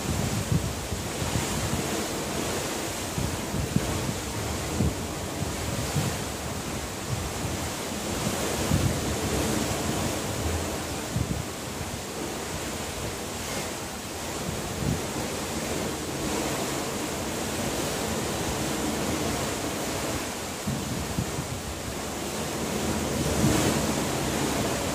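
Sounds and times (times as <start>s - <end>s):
sea water rushing: 0.0s - 24.9s
wind buffeting microphone: 0.0s - 24.9s.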